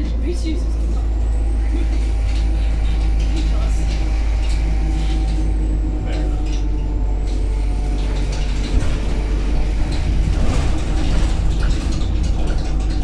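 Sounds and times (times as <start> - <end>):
bus engine rumble: 0.0 - 13.0
interior fittings rattling: 0.0 - 13.0.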